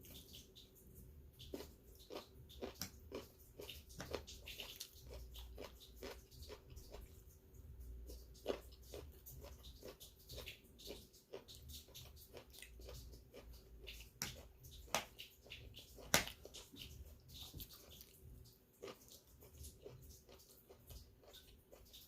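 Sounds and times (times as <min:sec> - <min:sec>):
chewing and lip smacking: 0:00.0 - 0:22.0
small wet clicks: 0:00.0 - 0:22.0.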